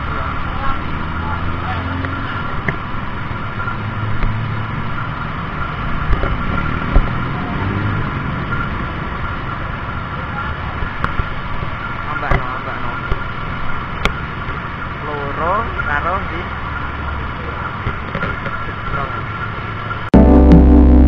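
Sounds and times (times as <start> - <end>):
engine hum: 0.0 - 21.0.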